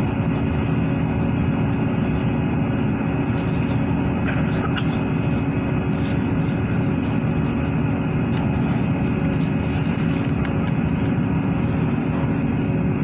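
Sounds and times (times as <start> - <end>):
diesel engine hum: 0.0 - 13.0.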